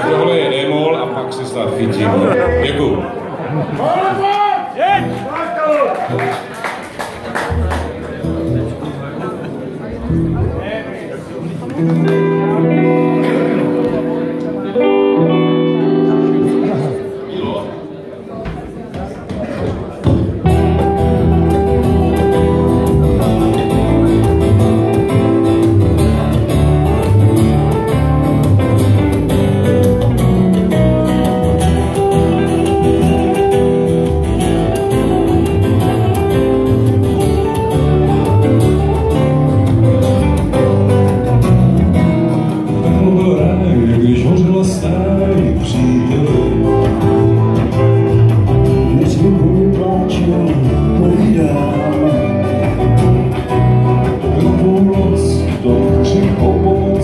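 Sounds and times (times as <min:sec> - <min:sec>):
live folk band playing: 0:00.0 - 0:04.1, 0:06.0 - 0:18.8, 0:19.4 - 0:57.0.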